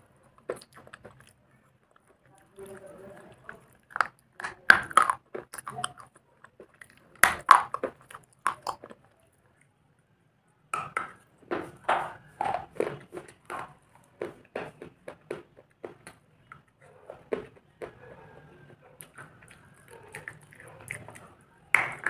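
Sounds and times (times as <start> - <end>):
crunchy chewing and biting: 0.0 - 9.2, 12.1 - 22.0.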